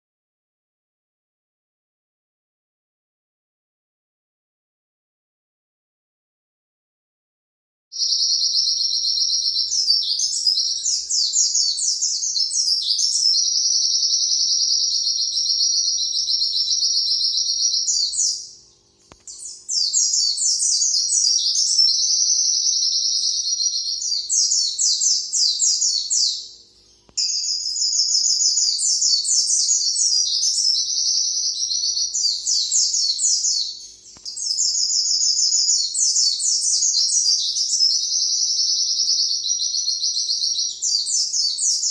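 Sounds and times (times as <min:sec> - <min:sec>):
bird twittering song: 0:08.0 - 0:41.9.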